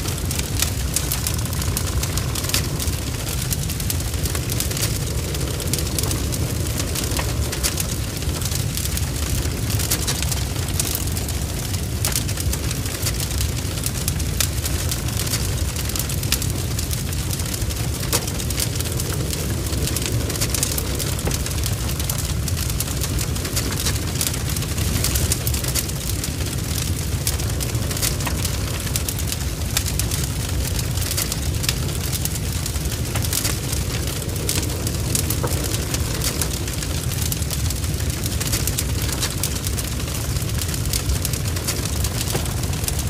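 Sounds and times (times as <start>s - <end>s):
burning logs crackling: 0.0s - 43.0s
low rumble of flames: 0.0s - 43.0s.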